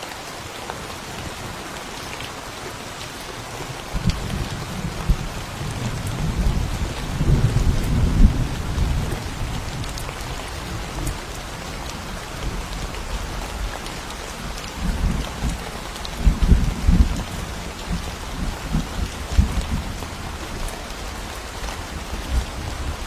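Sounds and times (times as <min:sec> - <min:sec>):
steady rain: 0:00.0 - 0:23.0
low thunder rumble: 0:03.9 - 0:13.7, 0:14.3 - 0:23.0.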